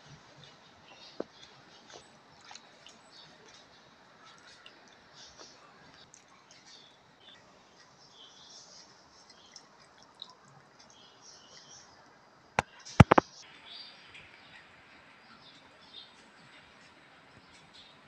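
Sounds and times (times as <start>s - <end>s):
faint high-pitched chirping: 0.0s - 18.0s.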